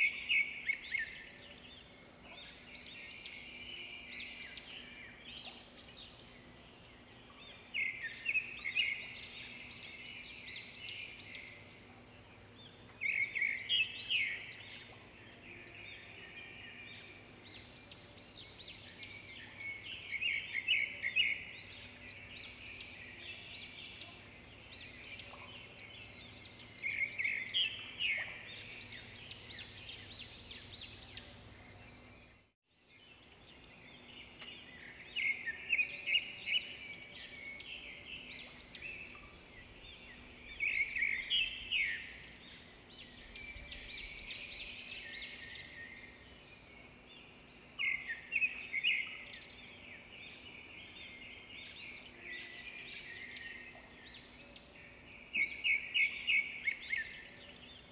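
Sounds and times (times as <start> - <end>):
birds chirping and calling: 0.0 - 32.3, 33.6 - 57.9.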